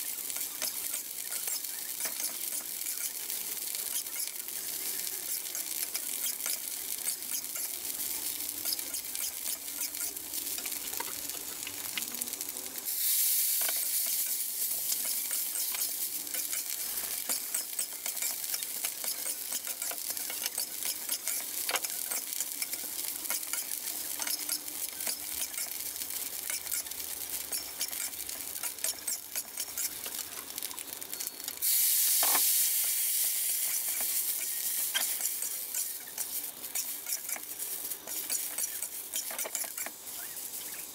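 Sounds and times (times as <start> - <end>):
rice sizzling in a wok: 0.0 - 40.9
metal spatula scraping wok: 0.1 - 11.6, 13.5 - 30.5, 33.2 - 40.9.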